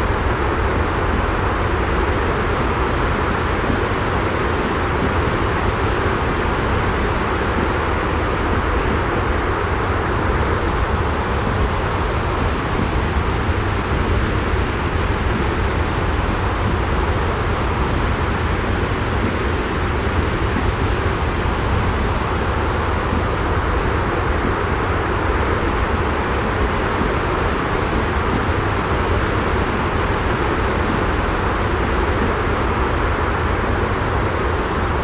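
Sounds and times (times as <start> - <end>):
white noise hiss: 0.0 - 35.0.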